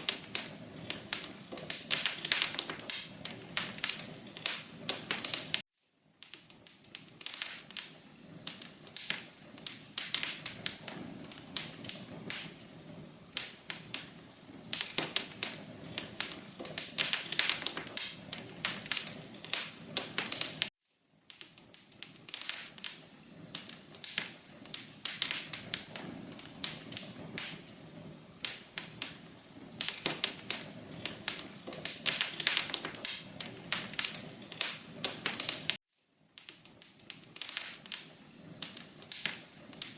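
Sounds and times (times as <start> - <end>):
fireplace crackling: 0.0 - 39.9.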